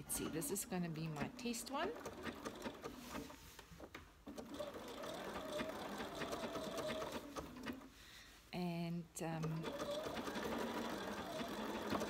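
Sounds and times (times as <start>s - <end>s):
sewing machine stitching: 0.1s - 7.9s, 9.3s - 12.0s.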